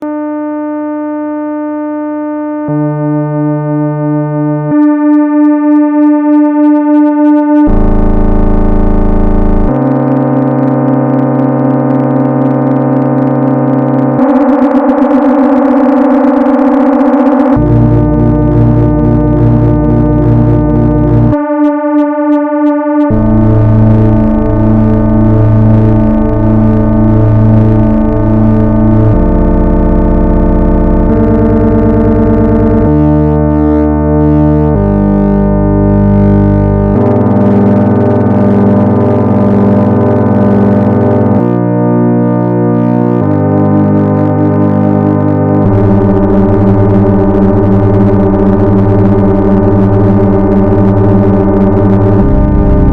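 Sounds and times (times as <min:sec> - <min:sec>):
computer-generated sine wave drone: 0:00.0 - 0:52.9
dissonant synthetic chords: 0:04.7 - 0:52.9.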